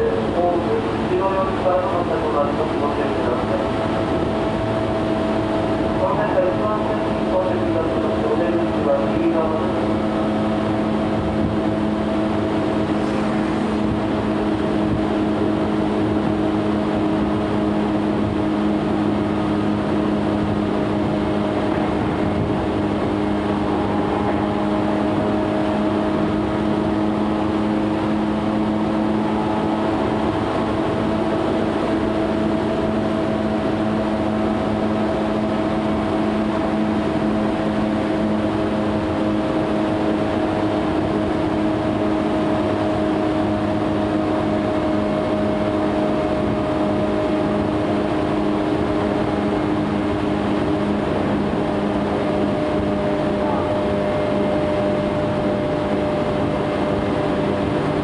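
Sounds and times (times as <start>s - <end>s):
electric train motor hum: 0.0s - 58.0s
wheels rumbling on rails: 0.0s - 58.0s.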